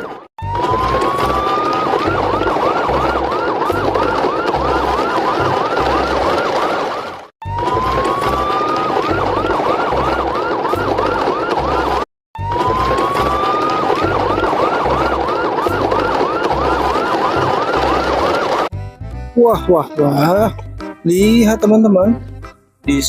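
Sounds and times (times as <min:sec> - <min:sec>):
electronic police siren: 0:00.0 - 0:18.7.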